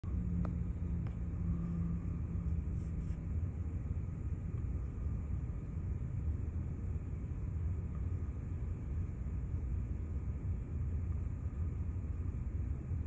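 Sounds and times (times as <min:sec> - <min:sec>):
low hum: 0:00.0 - 0:13.0
low outdoor rumble: 0:00.0 - 0:13.0.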